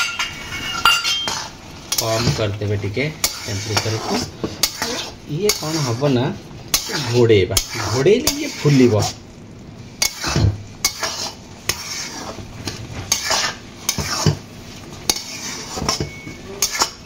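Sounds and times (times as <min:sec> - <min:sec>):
metal spatula scraping pan: 0:00.0 - 0:02.5, 0:03.2 - 0:09.2, 0:09.9 - 0:17.0
faint sizzle: 0:00.0 - 0:17.0.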